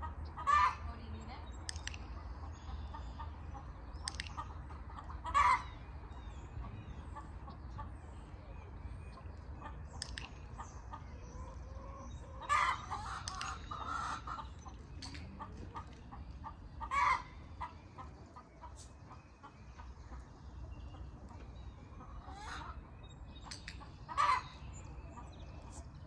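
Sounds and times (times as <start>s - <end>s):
chickens clucking: 0.0s - 0.9s, 1.7s - 26.0s.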